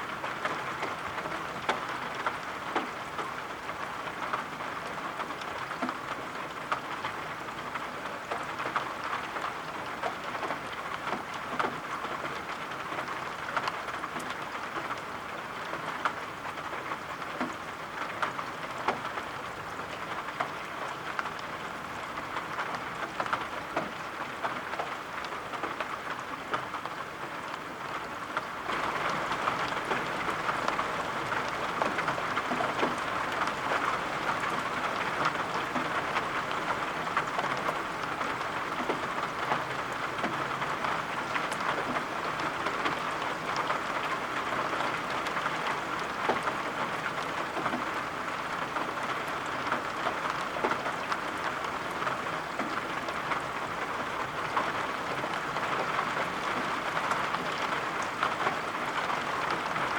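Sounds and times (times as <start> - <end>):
soft rain pattering: 0.0 - 59.9.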